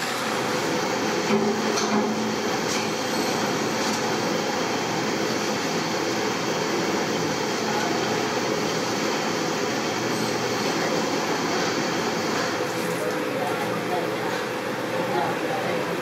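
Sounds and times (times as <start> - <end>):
workshop machinery drone: 0.0 - 16.0.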